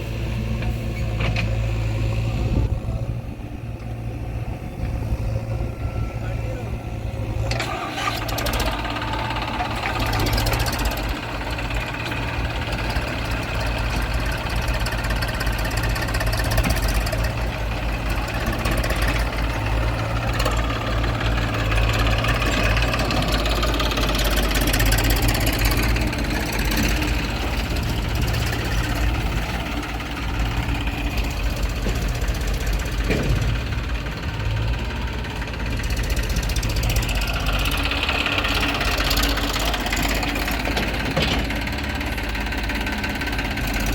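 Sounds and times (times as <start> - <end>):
diesel engines throbbing: 0.0 - 43.9.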